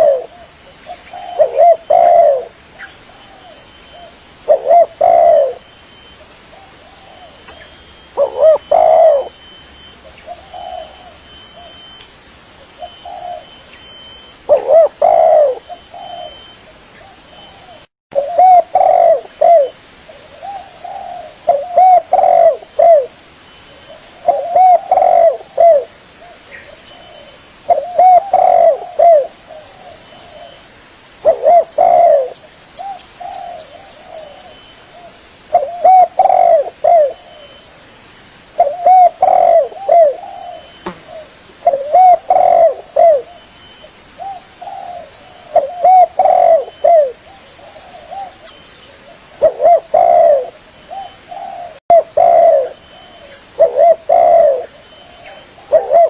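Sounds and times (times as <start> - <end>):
dove cooing: 0.0 - 12.0, 12.7 - 30.6, 31.2 - 37.7, 38.6 - 56.0.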